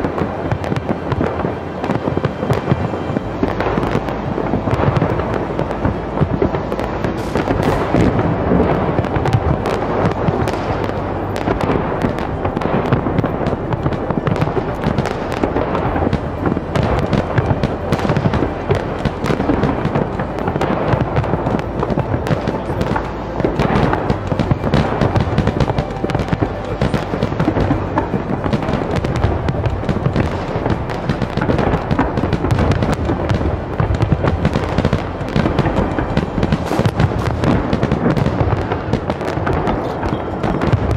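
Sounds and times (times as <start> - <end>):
firework shells bursting with crackling: 0.0 - 40.9.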